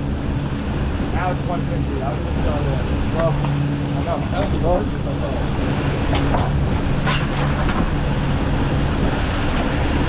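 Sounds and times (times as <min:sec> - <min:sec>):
outboard engines running: 0:00.0 - 0:10.0
water against boat hull: 0:00.0 - 0:10.0
wind: 0:00.0 - 0:10.0.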